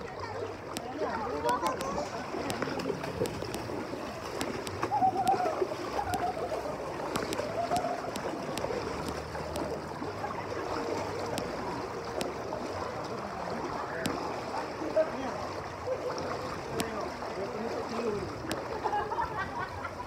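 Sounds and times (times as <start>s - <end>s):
water splashing and churning: 0.0s - 20.0s.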